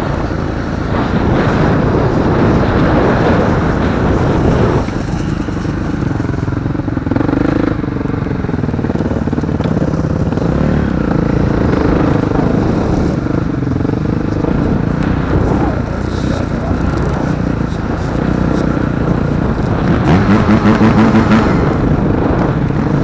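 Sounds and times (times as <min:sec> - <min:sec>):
motocross motorcycles racing: 0:00.0 - 0:23.0
motorcycle engine revving: 0:00.0 - 0:23.0.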